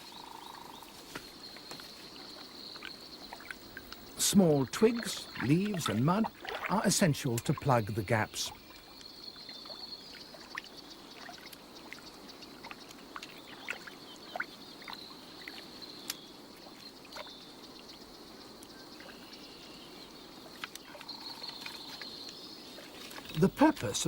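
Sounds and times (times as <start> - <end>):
water trickling and splashing: 1.2 - 24.0.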